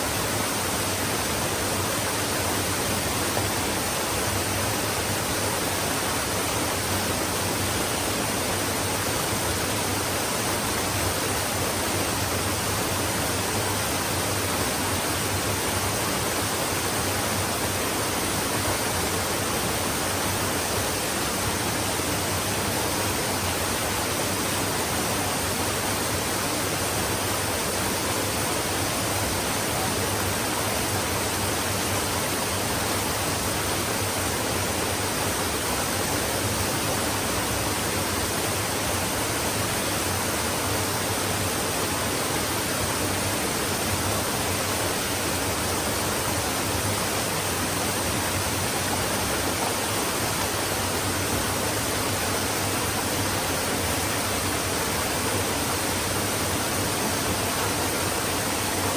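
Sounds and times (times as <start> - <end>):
stream running water: 0.0 - 58.9.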